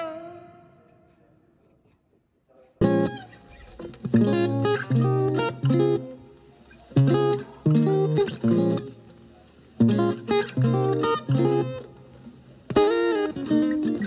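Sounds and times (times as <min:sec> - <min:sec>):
plucked guitar music: 0:00.0 - 0:01.0, 0:02.8 - 0:14.0.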